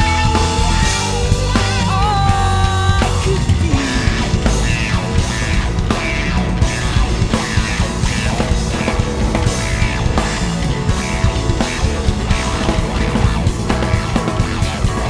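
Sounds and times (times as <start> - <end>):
drum kit hits: 0.0 - 15.0
electric bass: 0.0 - 15.0
electric guitar: 0.0 - 15.0.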